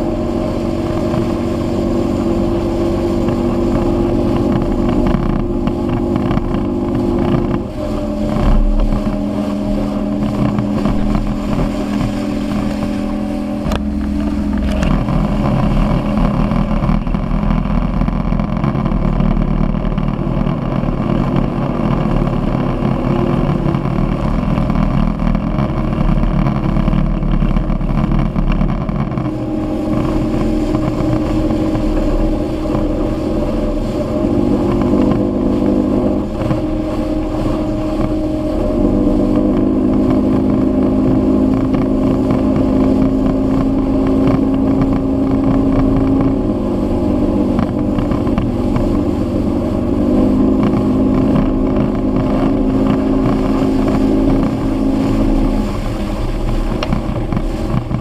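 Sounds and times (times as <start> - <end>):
outboard motor running: 0.0 - 58.0
water wake rushing and splashing: 0.0 - 58.0.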